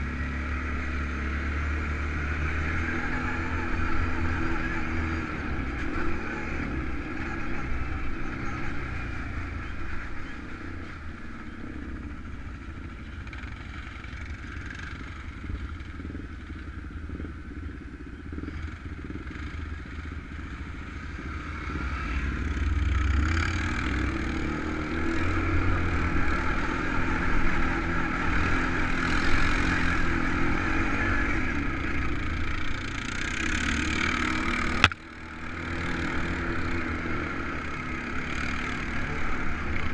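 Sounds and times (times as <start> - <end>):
off-road engines rumbling: 0.0 - 39.9.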